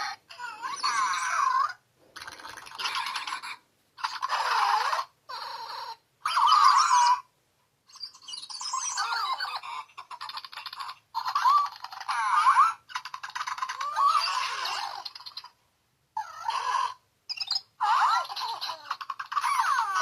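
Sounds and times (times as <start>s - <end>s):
toy hamster electronic squeaks: 0.0s - 7.3s, 7.9s - 15.6s, 16.2s - 20.0s.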